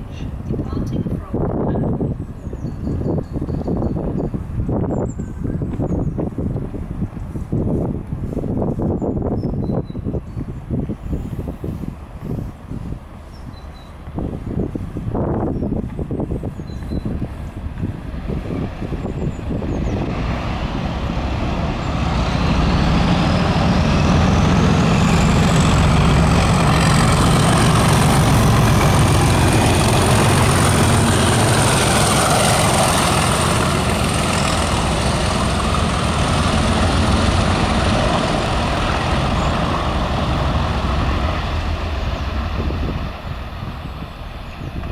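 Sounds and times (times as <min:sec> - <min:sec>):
diesel locomotive engines: 0:00.0 - 0:44.9.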